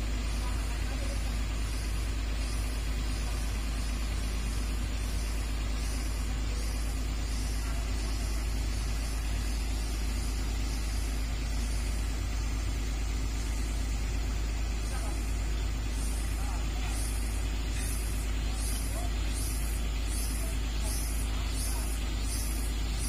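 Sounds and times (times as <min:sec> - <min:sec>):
diesel machinery rumbling: 0:00.0 - 0:23.0.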